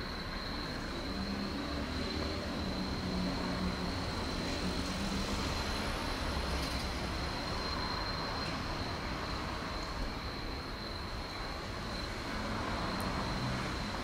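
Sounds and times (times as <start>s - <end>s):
distant road traffic rumble: 0.0s - 14.0s
thin high whine: 0.0s - 14.0s.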